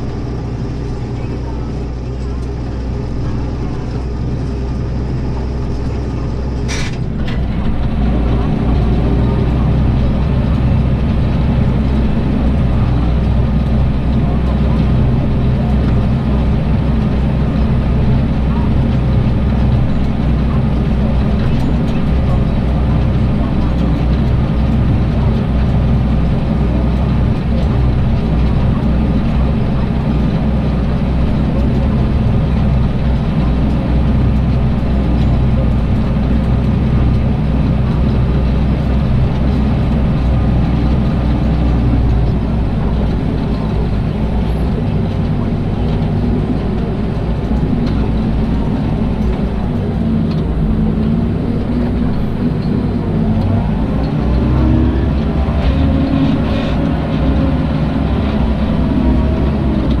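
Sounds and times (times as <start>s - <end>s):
tractor diesel engine under load: 0.0s - 60.0s.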